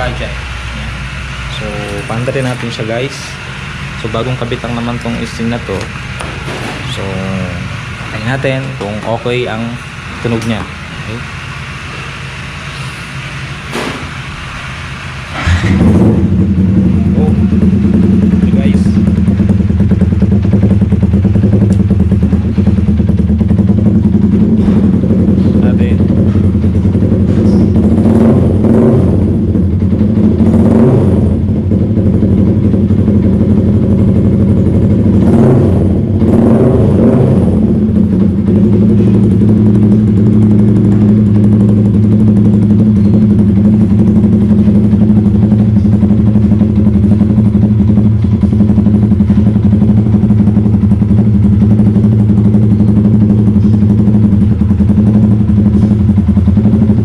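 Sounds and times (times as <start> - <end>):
motorcycle engine revving and idling: 0.0 - 57.0.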